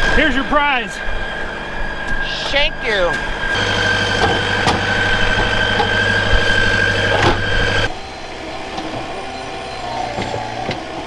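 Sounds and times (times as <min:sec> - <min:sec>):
high whine: 0:00.0 - 0:11.0
track loader engine running: 0:00.0 - 0:11.0.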